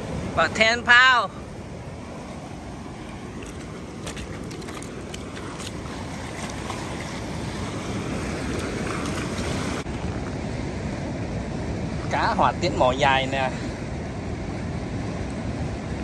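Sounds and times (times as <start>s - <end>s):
rushing water: 0.0s - 16.0s
wind: 0.0s - 16.0s.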